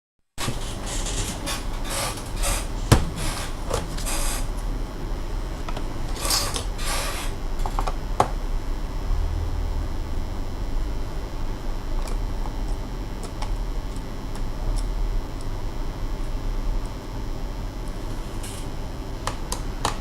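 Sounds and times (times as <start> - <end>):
steady low hum: 0.4 - 20.0.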